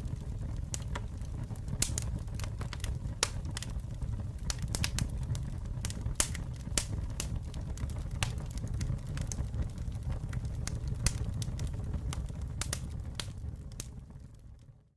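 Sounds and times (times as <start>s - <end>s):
campfire crackling and popping: 0.0s - 14.6s
low rumble of flames: 0.0s - 14.9s.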